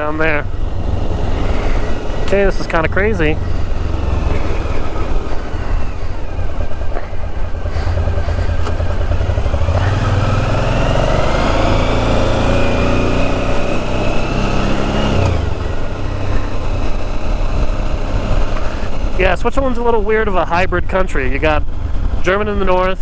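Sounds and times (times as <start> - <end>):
motorcycle engine accelerating: 0.0 - 23.0
wind noise: 0.0 - 23.0.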